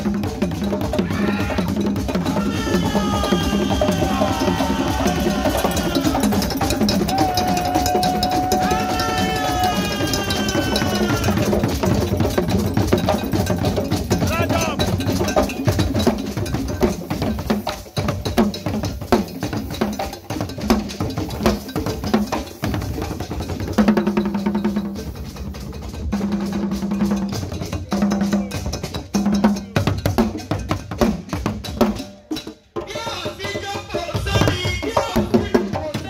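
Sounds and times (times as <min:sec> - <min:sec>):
drum ensemble playing fast strokes: 0:00.0 - 0:36.0.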